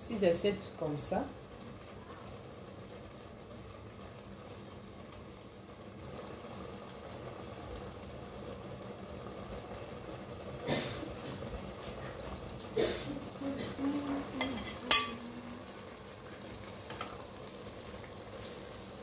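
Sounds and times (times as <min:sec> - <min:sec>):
pot simmering rumble: 0:00.0 - 0:19.0.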